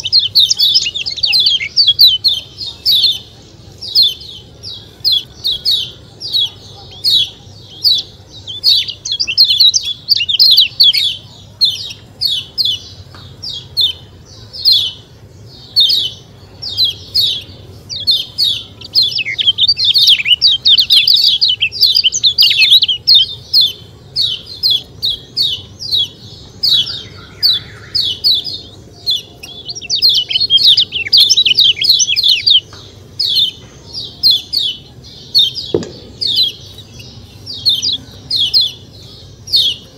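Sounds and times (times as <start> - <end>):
bird chip calls: 0.0 - 39.9.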